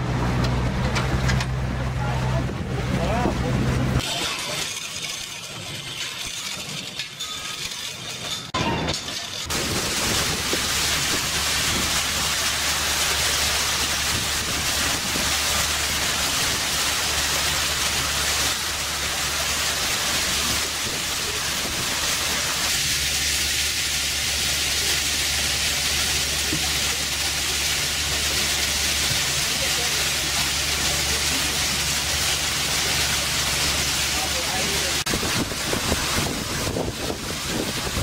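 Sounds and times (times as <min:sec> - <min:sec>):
boat engine hum: 0:00.0 - 0:05.8, 0:09.5 - 0:38.0
water and air rushing: 0:00.0 - 0:06.7, 0:09.3 - 0:38.0.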